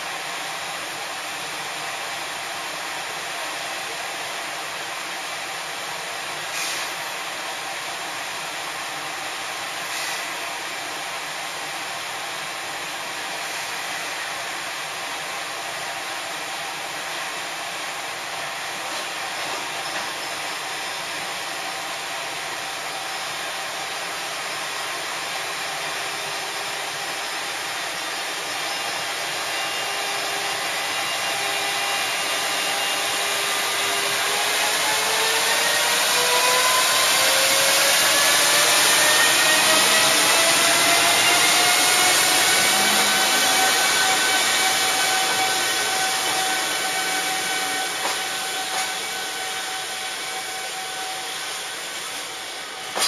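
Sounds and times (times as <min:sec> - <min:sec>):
electric locomotive inverter whine: 0:00.0 - 0:53.0.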